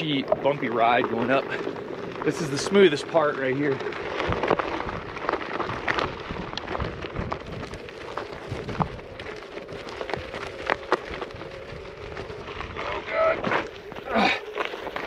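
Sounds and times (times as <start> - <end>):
pebble clicks: 0.0 - 15.0
tire crunching on gravel: 0.0 - 15.0.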